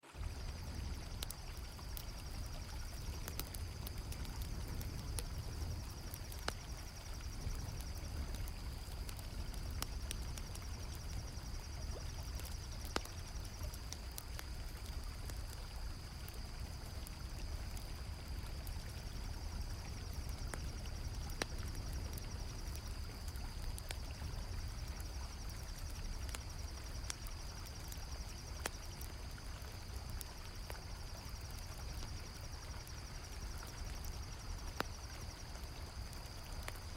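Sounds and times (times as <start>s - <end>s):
campfire crackling: 0.0s - 36.9s
crickets trilling: 0.1s - 36.9s.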